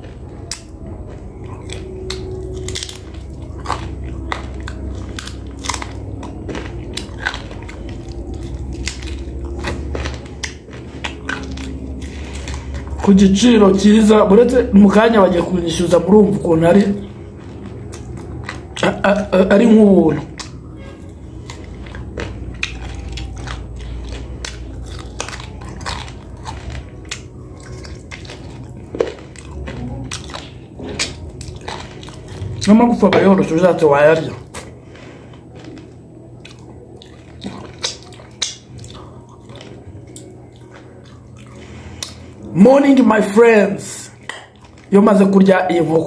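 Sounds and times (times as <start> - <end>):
person chewing chicken: 0.0 - 43.4, 44.1 - 46.0
low steady hum: 0.0 - 46.0
man gnawing on a bone: 0.0 - 46.0.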